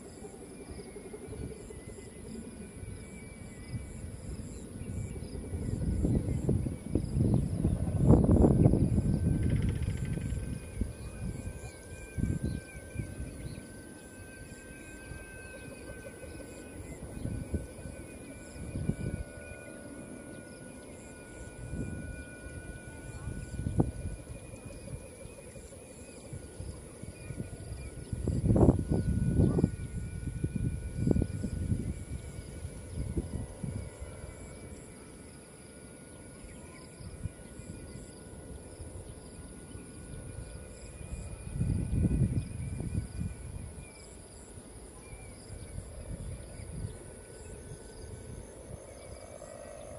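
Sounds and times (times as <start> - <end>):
faint high-pitched whine: 0.0 - 49.9
high-pitched drone: 0.0 - 49.9
wind buffeting microphone: 0.7 - 35.0, 36.8 - 49.2.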